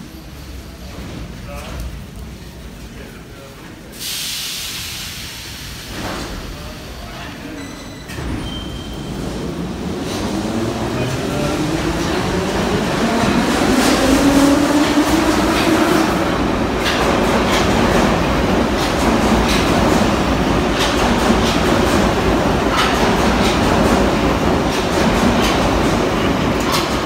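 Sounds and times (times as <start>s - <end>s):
train rolling rumble: 0.0s - 27.0s.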